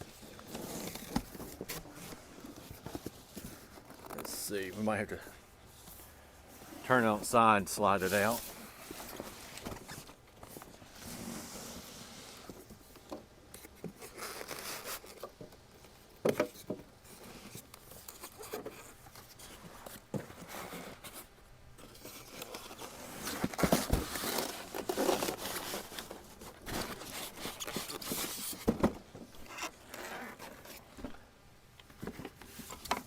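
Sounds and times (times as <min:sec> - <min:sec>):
cardboard and packing rustling: 0:00.0 - 0:31.3, 0:31.9 - 0:33.0.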